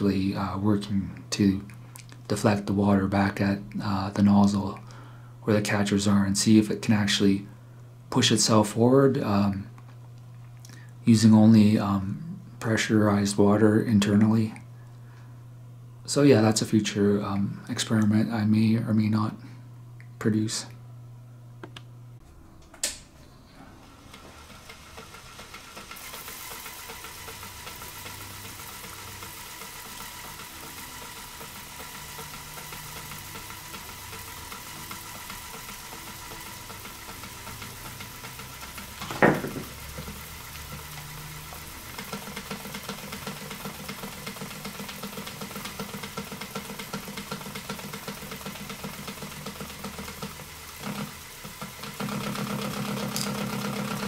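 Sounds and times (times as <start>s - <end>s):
electric motor hum and whine: 0.0s - 54.0s.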